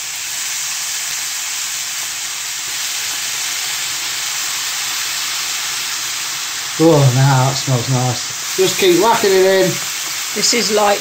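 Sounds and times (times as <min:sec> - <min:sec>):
rice sizzling in a frying pan: 0:00.0 - 0:11.0.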